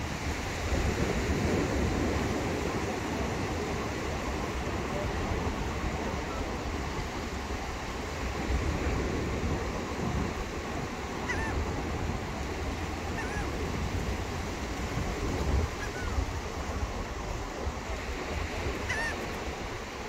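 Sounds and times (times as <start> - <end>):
surf washing on beach: 0.0 - 20.0
wind rumbling on microphone: 0.0 - 20.0.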